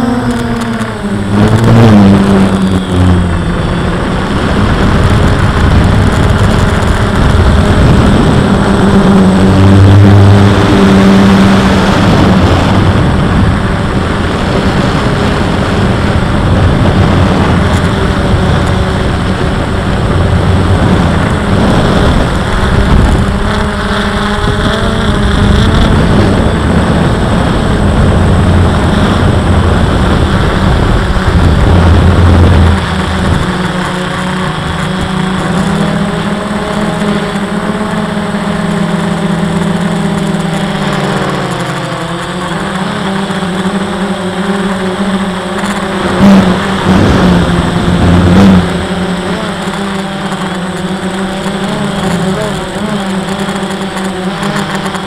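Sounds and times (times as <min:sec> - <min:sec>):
drone propellers buzzing: 0:00.0 - 0:55.0
wind noise on microphone: 0:00.0 - 0:55.0.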